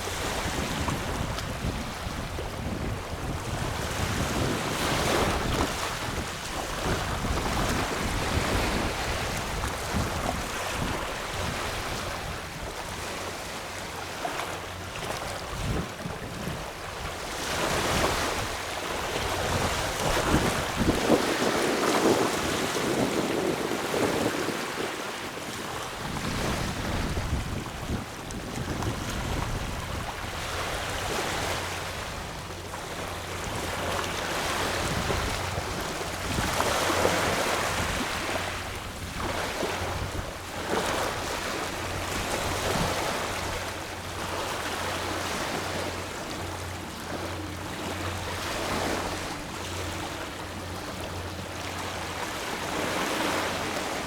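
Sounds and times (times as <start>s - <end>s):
small waves washing onto beach: 0.0s - 54.0s.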